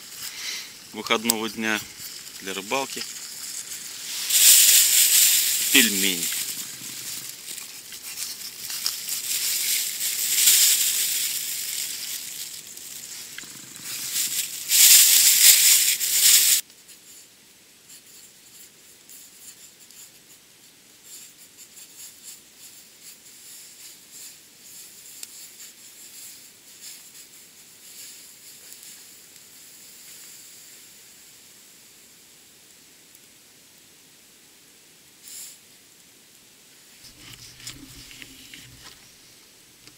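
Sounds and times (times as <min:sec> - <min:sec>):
wood stove crackling and hissing: 0:00.0 - 0:39.9.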